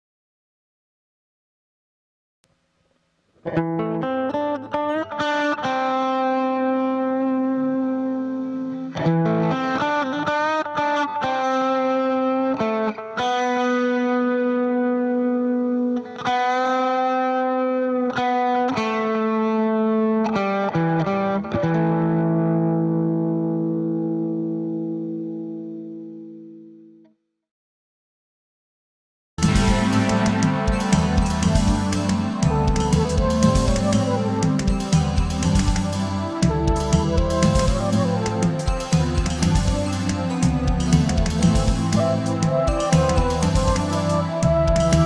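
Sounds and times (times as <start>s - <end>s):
distorted electric guitar melody: 3.4s - 26.9s, 29.4s - 45.0s.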